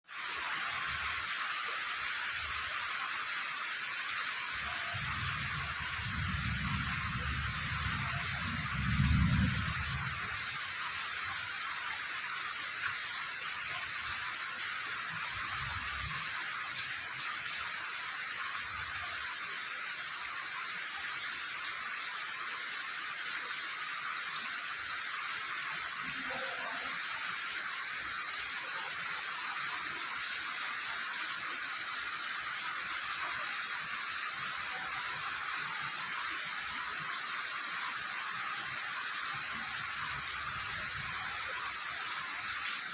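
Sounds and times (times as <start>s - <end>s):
heavy rain falling: 0.1s - 42.9s.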